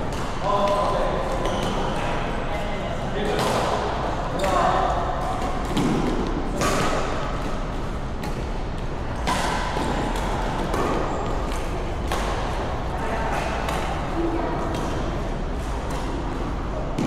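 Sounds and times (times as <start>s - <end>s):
rackets hitting shuttlecock: 0.0s - 2.0s, 3.2s - 12.7s, 13.3s - 17.0s
steady background noise: 0.0s - 17.0s.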